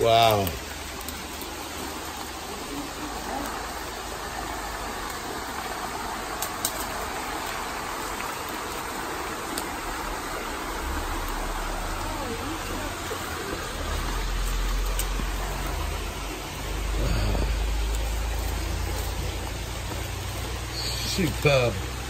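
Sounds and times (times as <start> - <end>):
stream and waterfall rushing: 0.0 - 22.0.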